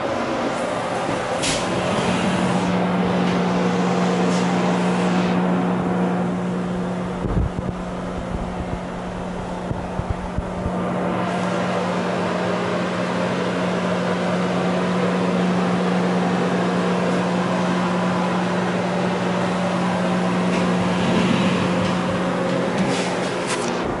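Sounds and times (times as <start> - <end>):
exhaust fan humming: 0.0 - 24.0.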